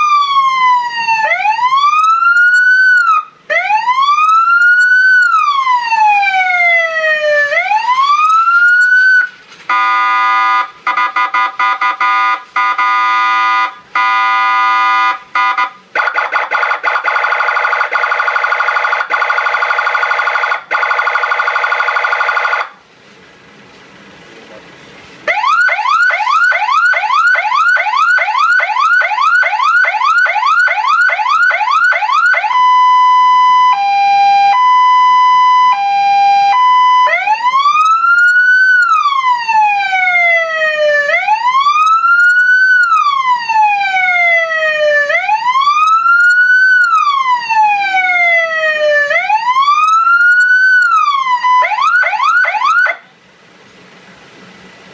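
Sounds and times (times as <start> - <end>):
electronic vehicle siren cycling tones: 0.0 - 22.8, 25.3 - 53.1.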